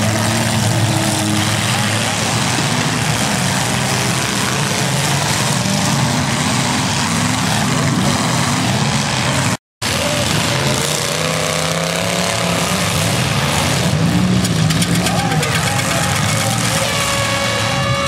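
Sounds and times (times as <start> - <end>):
car engines revving loudly: 0.0 - 18.0.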